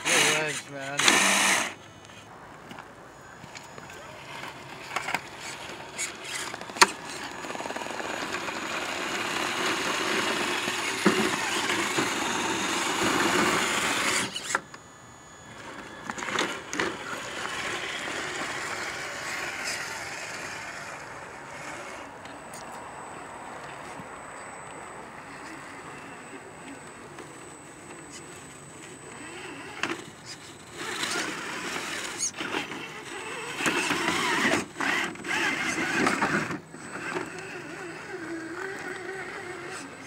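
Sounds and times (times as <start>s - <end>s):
toy truck motor whirring: 0.0s - 2.3s, 3.5s - 22.3s, 25.3s - 40.0s.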